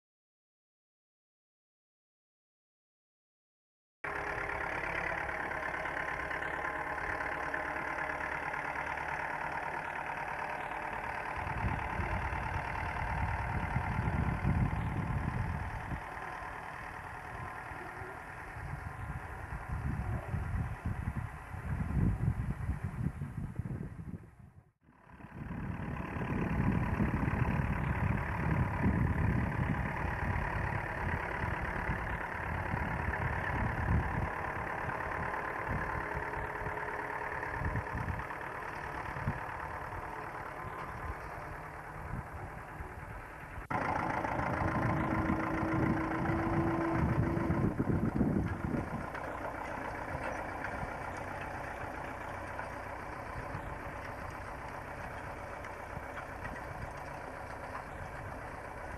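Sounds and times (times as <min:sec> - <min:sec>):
tractor engine running: 0:04.0 - 0:58.9.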